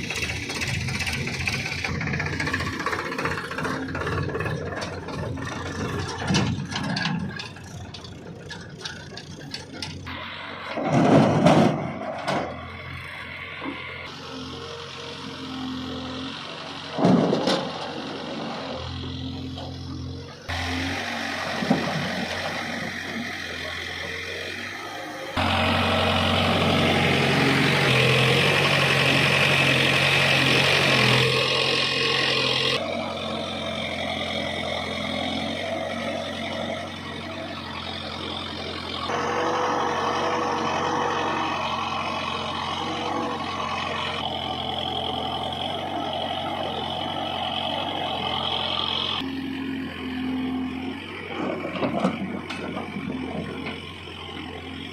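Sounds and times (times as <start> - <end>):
heavy diesel engines running: 0.0 - 54.9.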